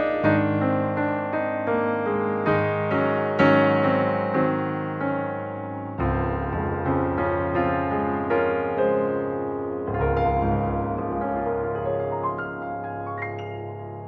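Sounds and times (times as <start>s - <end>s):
piano notes: 0.0s - 14.0s.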